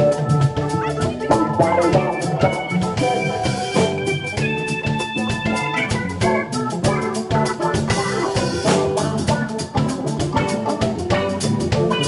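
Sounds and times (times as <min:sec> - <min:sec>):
drum kit beating: 0:00.0 - 0:12.0
funk band playing: 0:00.0 - 0:12.0.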